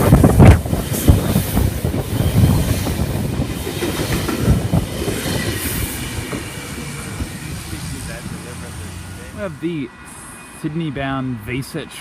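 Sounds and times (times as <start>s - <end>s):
train wheels rumbling over rails: 0.0s - 10.2s.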